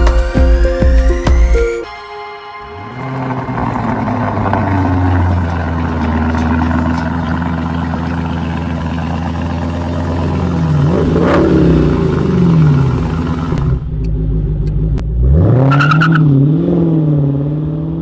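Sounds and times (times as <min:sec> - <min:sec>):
car engine revving: 0:02.6 - 0:18.0.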